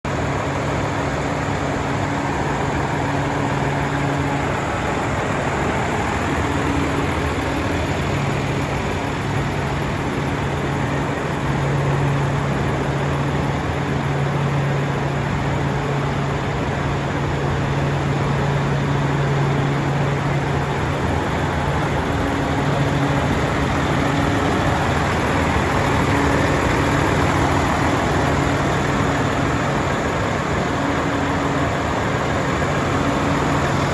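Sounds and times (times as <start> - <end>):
diesel truck engine idling: 0.1 - 33.9.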